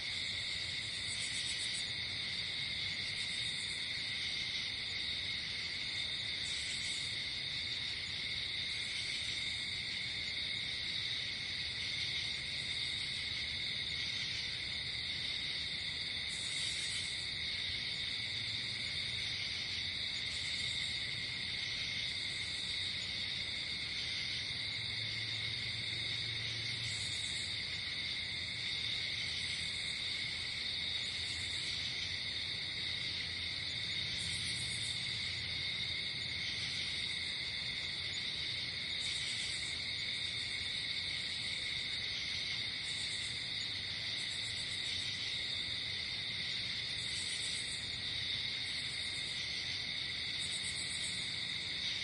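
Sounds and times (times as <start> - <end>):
crickets chirring: 0.0 - 52.0.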